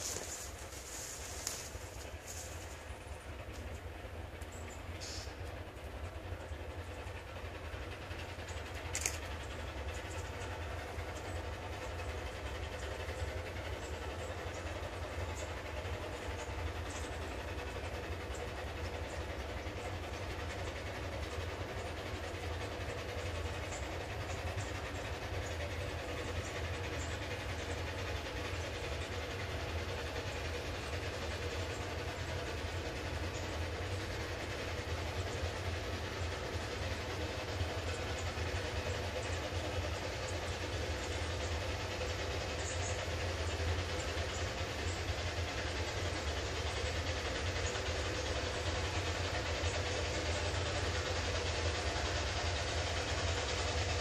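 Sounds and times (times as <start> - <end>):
steam locomotive rumble: 0.0 - 54.0.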